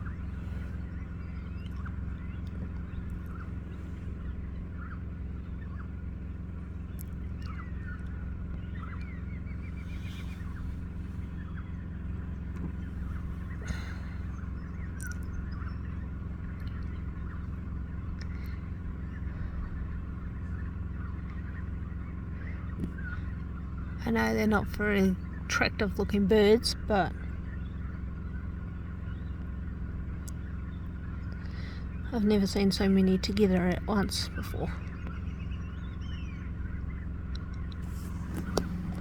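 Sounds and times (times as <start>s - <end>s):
birds calling: 0.0s - 39.0s
steady low rumble: 0.0s - 39.0s.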